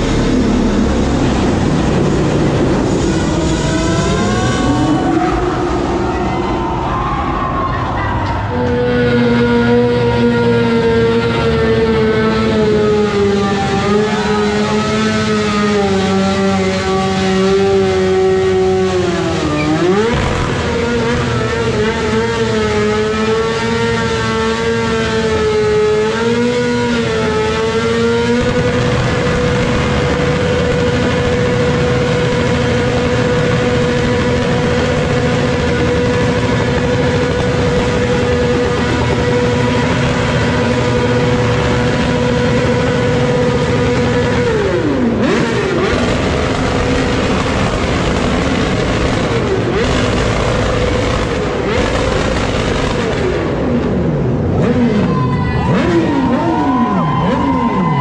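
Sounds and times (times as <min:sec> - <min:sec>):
motorcycle engine revving high: 0:00.0 - 0:07.6, 0:08.4 - 0:58.0.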